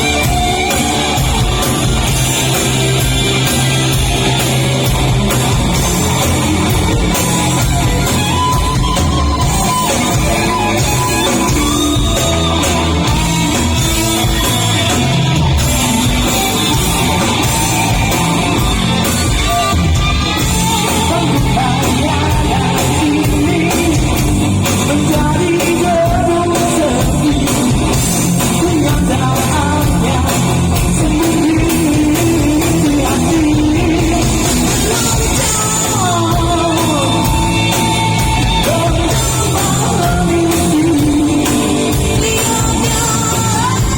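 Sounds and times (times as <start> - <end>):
man singing rock: 0.0 - 43.9
rock band with guitar: 0.0 - 43.9.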